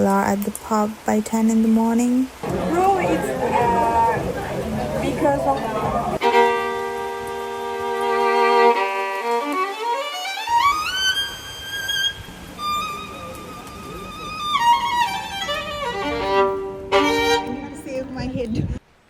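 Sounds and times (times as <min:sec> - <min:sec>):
string melody of held notes: 0:02.4 - 0:18.4.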